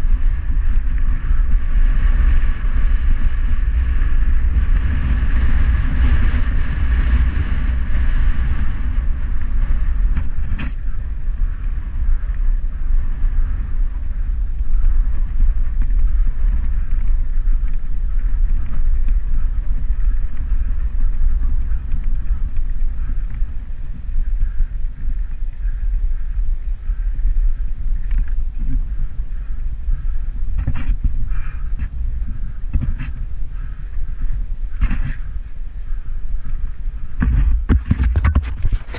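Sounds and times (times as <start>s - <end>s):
bike rattling: 0.0s - 38.9s
wind on microphone: 0.0s - 38.9s.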